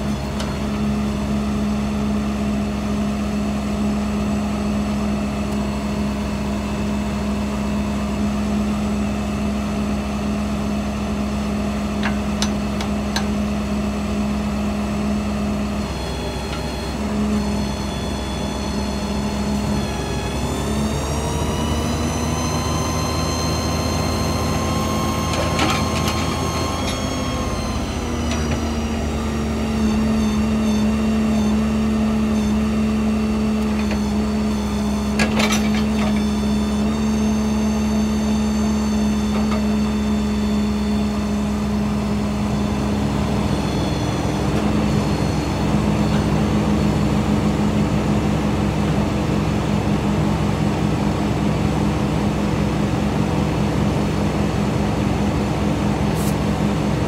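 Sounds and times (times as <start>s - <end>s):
heavy engine running: 0.0s - 57.0s.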